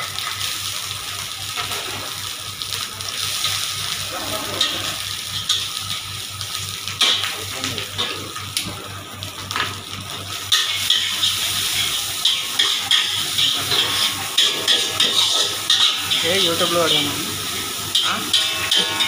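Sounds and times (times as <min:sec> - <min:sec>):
rice frying in a wok: 0:00.0 - 0:19.0.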